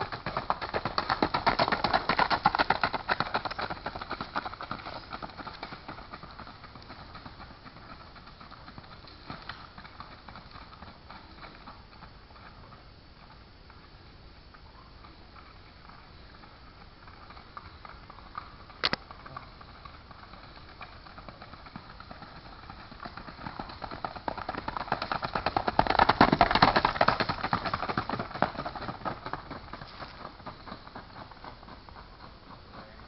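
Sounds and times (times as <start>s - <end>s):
horse hoofbeats: 0.0s - 13.9s, 14.6s - 33.0s.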